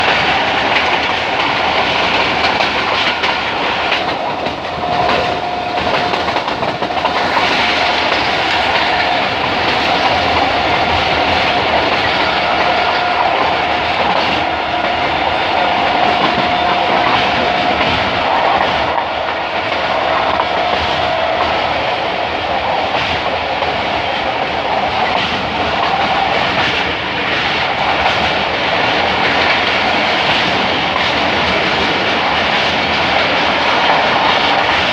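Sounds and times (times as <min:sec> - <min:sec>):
train wheels clattering: 0:00.0 - 0:34.9.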